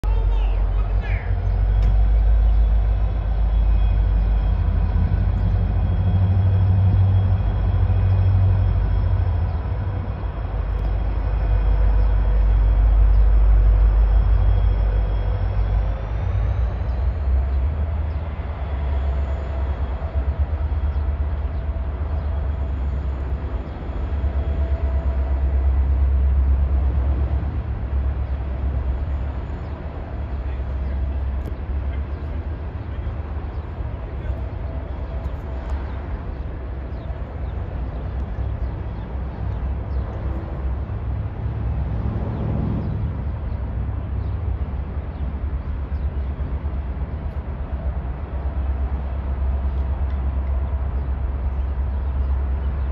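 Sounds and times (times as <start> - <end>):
diesel locomotive engine running: 0.0 - 52.9
hopper cars rolling on rails: 0.0 - 52.9.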